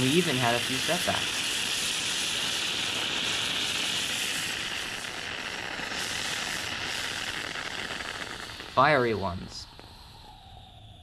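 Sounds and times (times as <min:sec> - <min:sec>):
rocket motor burning with rushing hiss: 0:00.0 - 0:11.0.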